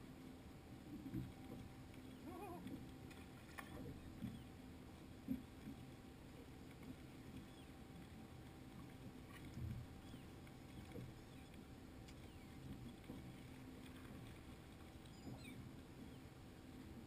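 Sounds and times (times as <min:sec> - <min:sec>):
faint rumble of water and wind: 0:00.0 - 0:17.0.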